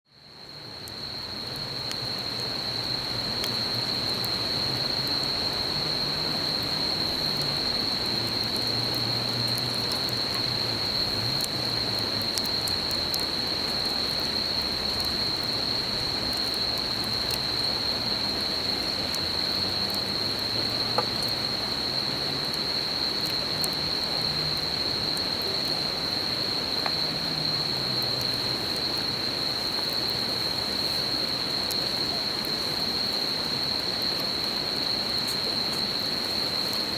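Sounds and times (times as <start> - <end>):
campfire crackling: 0.2 - 36.9.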